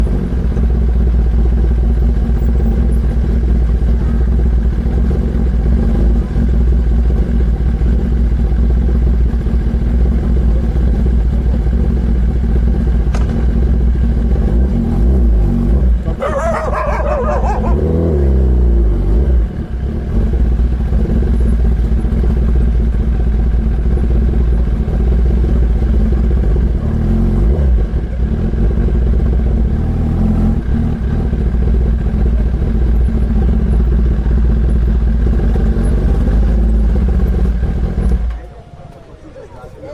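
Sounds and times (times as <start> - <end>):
motorcycle engine running: 0.0 - 38.4.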